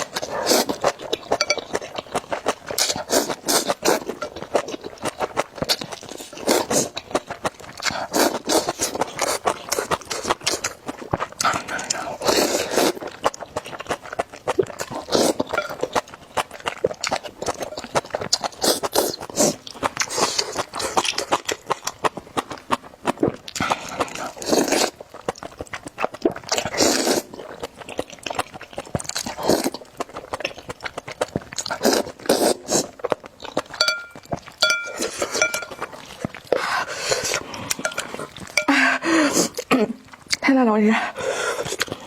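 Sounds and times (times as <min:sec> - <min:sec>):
slurping noodles: 0:00.0 - 0:22.1, 0:23.1 - 0:25.1, 0:26.0 - 0:33.8, 0:34.8 - 0:40.3, 0:41.0 - 0:42.0
wet chewing and smacking: 0:00.0 - 0:42.0.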